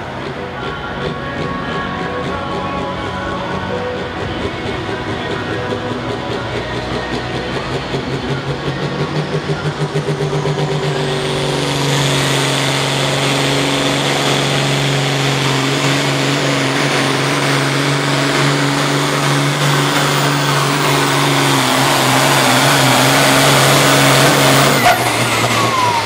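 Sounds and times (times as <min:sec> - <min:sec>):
high whine: 0:00.0 - 0:26.0
tractor engine at full throttle: 0:00.0 - 0:26.0.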